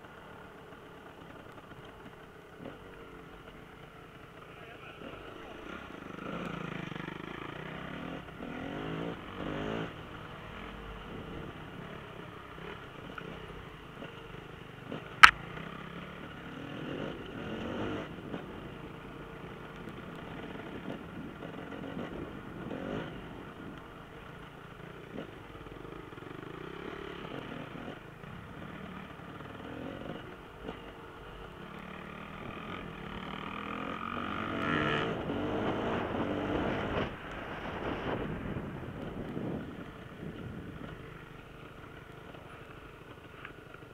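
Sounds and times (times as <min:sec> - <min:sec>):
motorcycle engines revving past: 0:00.0 - 0:43.9.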